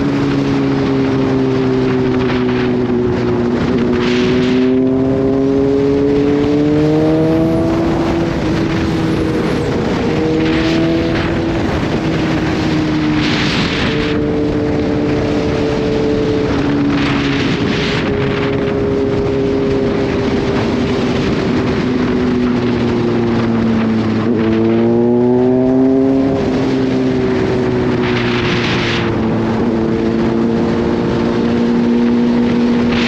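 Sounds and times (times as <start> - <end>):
motorcycle engine running: 0.0 - 33.0
wind noise: 0.0 - 33.0.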